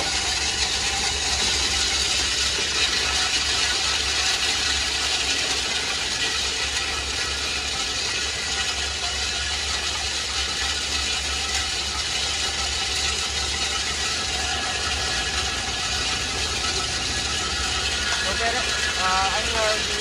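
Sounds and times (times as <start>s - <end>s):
low motor hum: 0.0s - 20.0s
snails rattling in machine: 0.0s - 20.0s.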